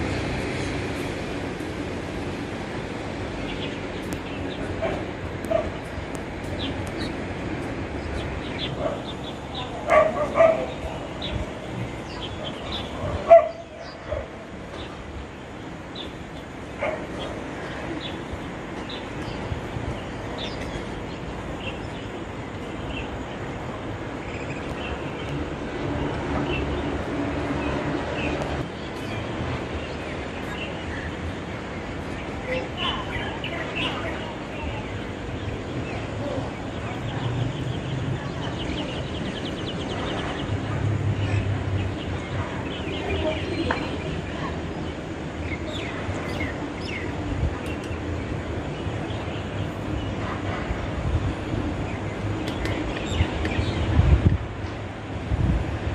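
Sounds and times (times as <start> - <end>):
birds trilling and chirping: 0.0 - 55.2.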